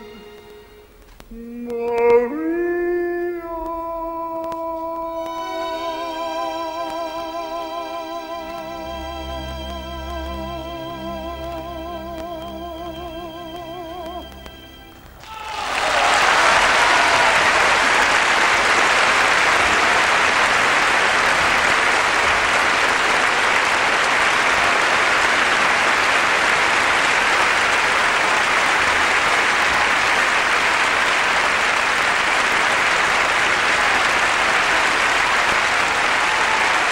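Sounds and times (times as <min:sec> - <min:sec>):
audience applauding: 0:00.0 - 0:02.4, 0:03.4 - 0:36.9.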